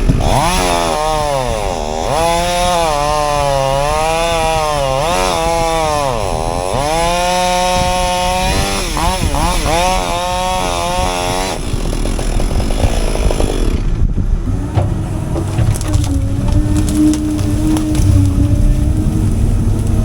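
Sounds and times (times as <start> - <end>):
crackling and crunching of wood: 0.0 - 20.0
machine engine running hard: 0.0 - 20.0.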